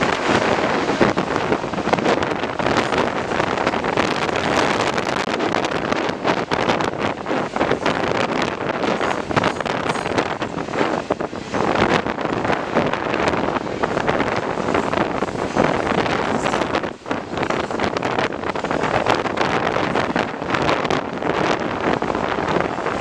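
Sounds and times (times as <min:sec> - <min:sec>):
freight train rolling on rails: 0:00.0 - 0:23.0
wind buffeting microphone: 0:00.0 - 0:23.0.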